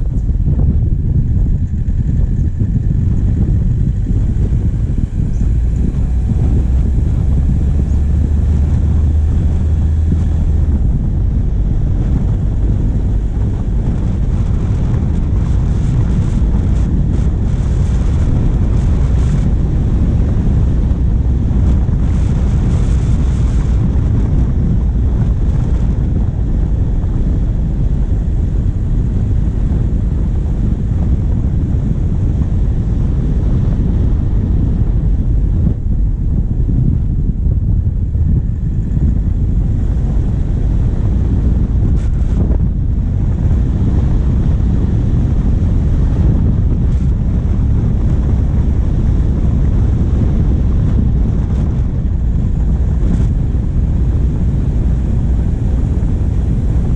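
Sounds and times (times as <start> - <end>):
diesel engine running: 0.0 - 56.9
low engine hum: 0.0 - 56.9
wind buffeting microphone: 0.0 - 56.9.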